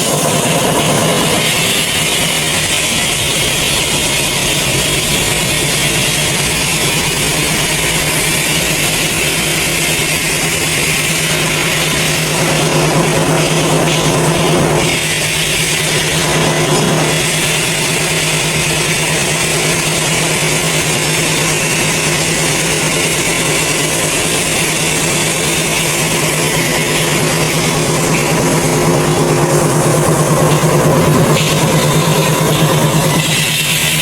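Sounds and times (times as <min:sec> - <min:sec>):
loud hiss: 0:00.0 - 0:34.0
machinery low hum: 0:00.0 - 0:34.0.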